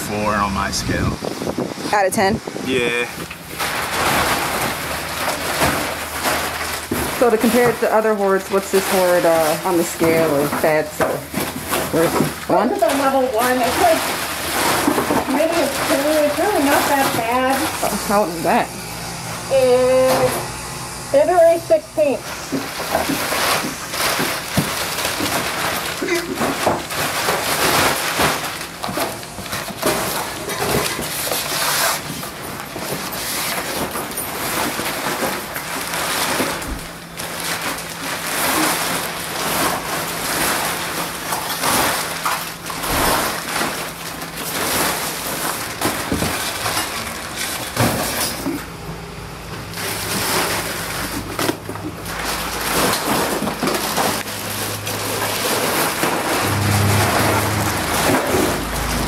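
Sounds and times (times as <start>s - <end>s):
plastic garbage bag rustling: 1.2s - 48.7s, 49.6s - 59.0s
debris clattering: 3.2s - 18.6s, 21.2s - 48.6s, 49.8s - 59.0s.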